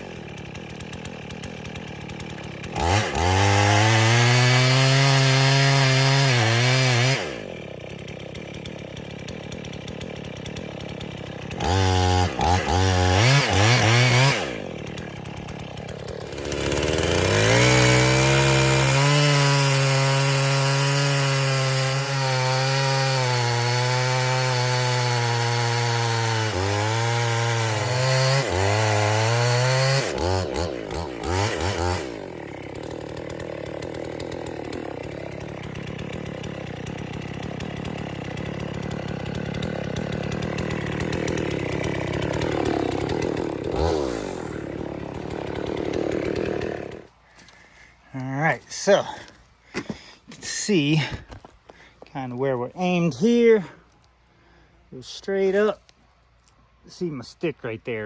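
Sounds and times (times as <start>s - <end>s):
chainsaw cutting wood: 0.0s - 56.8s
chainsaw idling: 0.0s - 56.8s.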